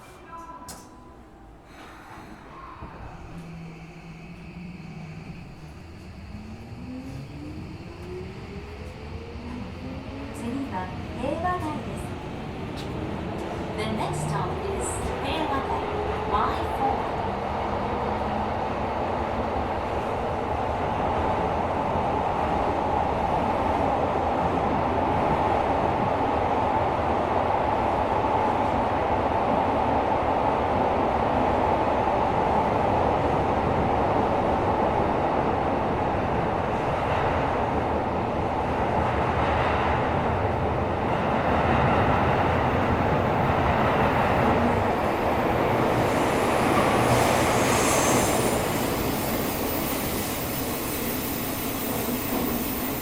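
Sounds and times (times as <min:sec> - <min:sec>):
train wheels rumbling on rail: 0:01.6 - 0:53.0.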